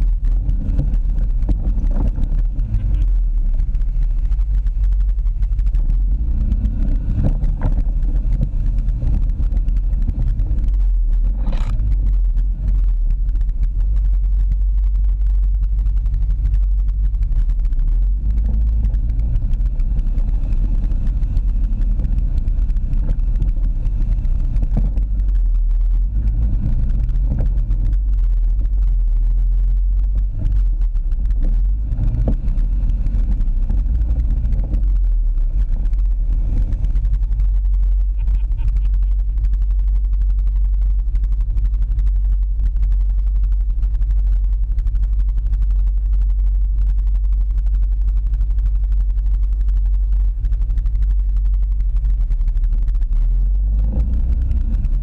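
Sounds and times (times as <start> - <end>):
atv engine rumbling: 0.0 - 55.0.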